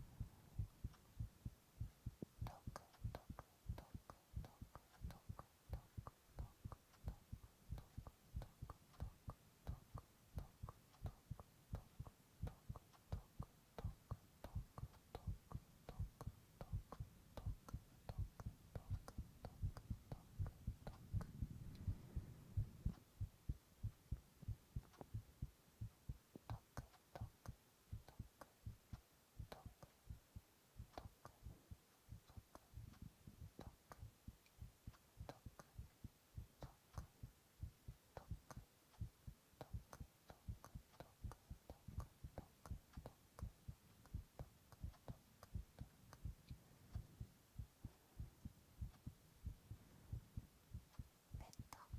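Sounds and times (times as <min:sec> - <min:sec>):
heartbeat thumps: 0:00.0 - 0:51.9.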